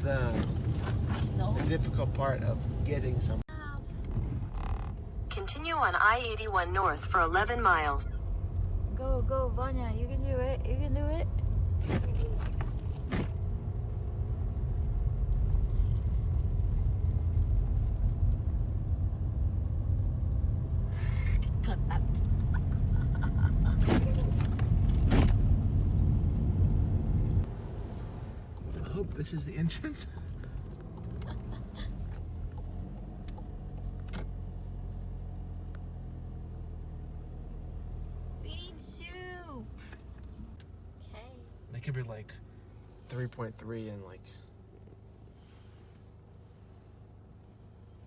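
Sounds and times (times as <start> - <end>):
car engine and tyres rumbling: 0.0 - 48.0.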